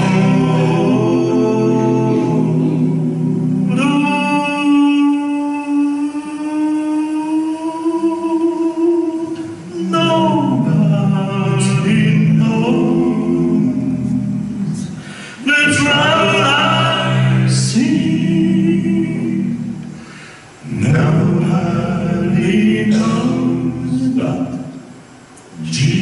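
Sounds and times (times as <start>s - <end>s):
male vocal quartet singing: 0.0s - 26.0s.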